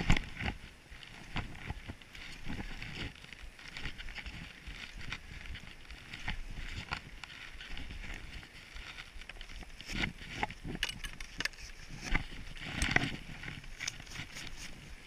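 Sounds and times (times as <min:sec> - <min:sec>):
gloves and straps rustling: 0:00.0 - 0:15.0
skis scraping over snow: 0:00.0 - 0:15.0.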